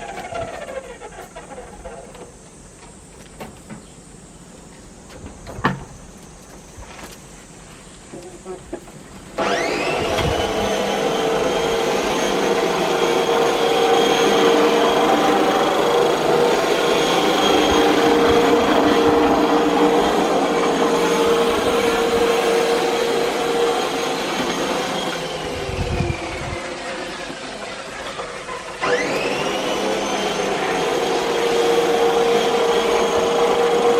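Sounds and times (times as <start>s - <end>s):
electric mower whining: 0.0s - 3.2s, 8.9s - 33.9s.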